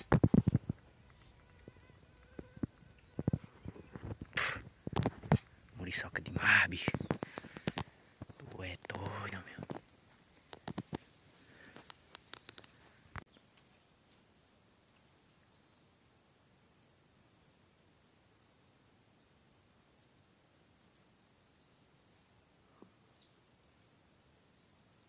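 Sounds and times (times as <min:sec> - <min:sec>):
insect chirring: 0:00.0 - 0:25.0.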